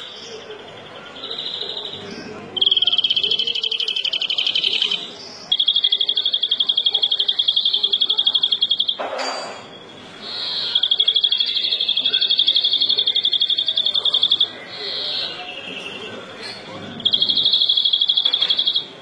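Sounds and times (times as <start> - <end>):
bird singing high trills: 1.1 - 9.0, 9.8 - 19.0.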